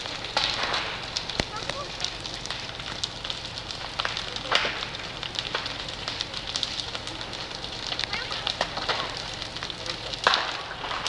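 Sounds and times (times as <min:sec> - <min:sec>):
fire crackling and popping: 0:00.0 - 0:11.0
fire hiss: 0:00.0 - 0:11.0.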